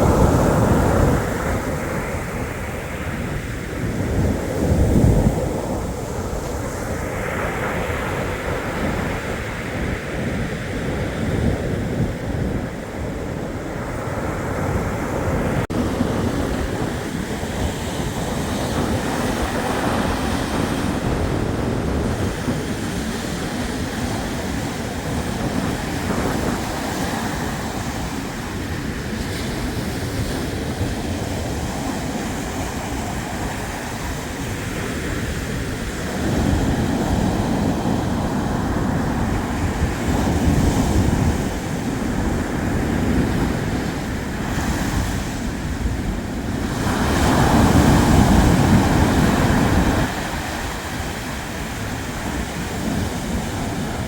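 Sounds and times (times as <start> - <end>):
surf washing onto shore: 0.0 - 54.0
waves breaking: 0.0 - 54.0.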